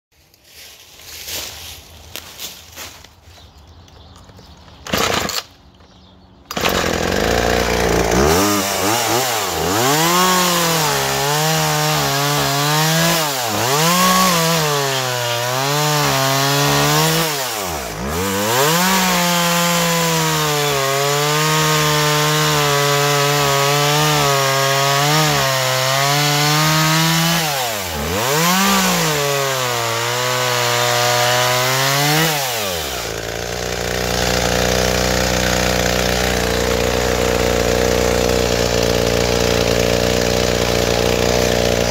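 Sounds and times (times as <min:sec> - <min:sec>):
chainsaw cutting log: 0:04.4 - 0:05.9, 0:06.5 - 0:41.9
chainsaw revving: 0:04.8 - 0:05.6, 0:06.5 - 0:41.9.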